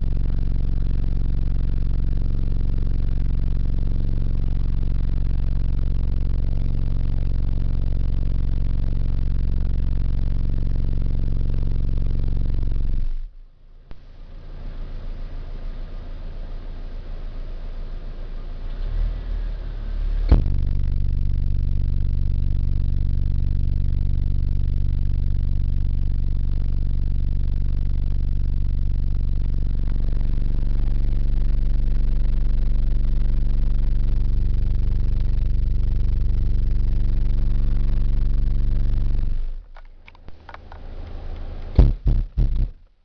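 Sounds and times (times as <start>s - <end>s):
subwoofer playing deep bass: 0.0s - 43.0s.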